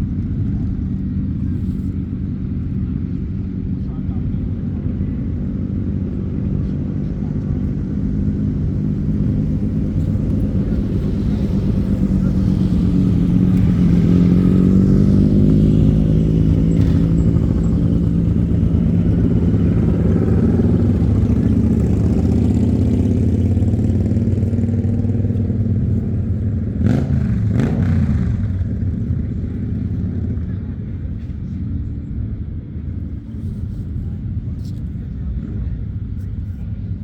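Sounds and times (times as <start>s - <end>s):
motorcycle engines passing by: 0.0s - 37.0s.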